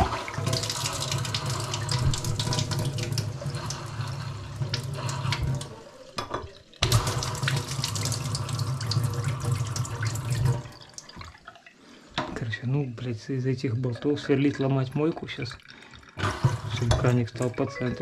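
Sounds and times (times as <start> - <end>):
tap water running into sink: 0.0 - 12.4, 13.8 - 18.0.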